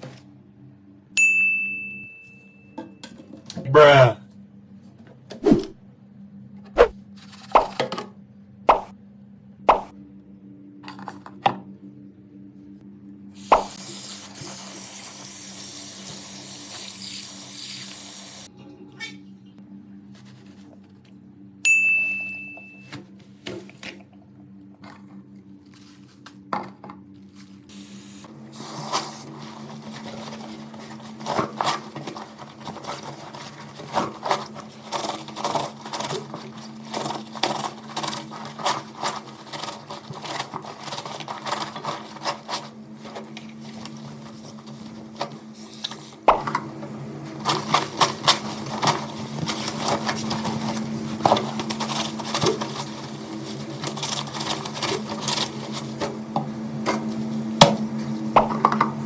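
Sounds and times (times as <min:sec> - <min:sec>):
small machine humming and clicking: 0:04.3 - 0:59.0.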